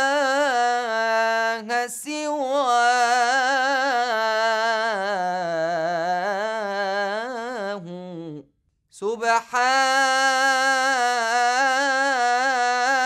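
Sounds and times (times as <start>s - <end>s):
man chanting: 0.0s - 8.4s, 9.0s - 13.0s.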